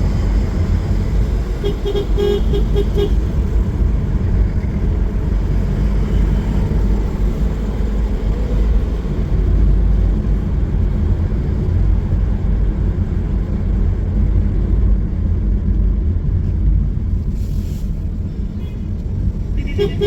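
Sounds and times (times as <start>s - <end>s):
car driving low rumble: 0.0s - 20.0s.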